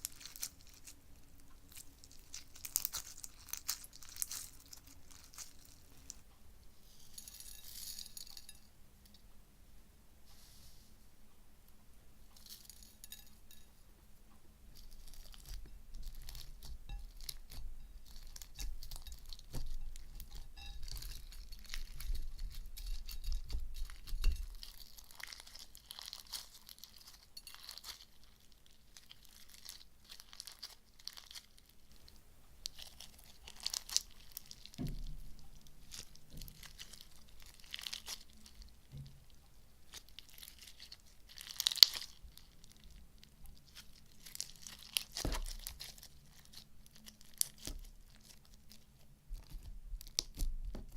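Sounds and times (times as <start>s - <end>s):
slime crinkling and crackling: 0.0s - 6.2s, 14.7s - 50.9s.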